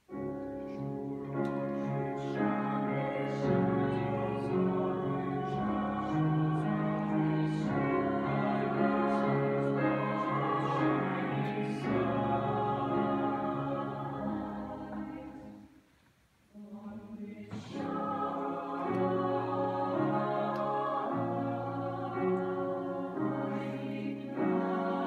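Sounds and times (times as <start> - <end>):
grand piano accompaniment: 0.0 - 15.8, 16.9 - 25.0
mixed choir singing: 1.4 - 15.7, 16.6 - 25.0.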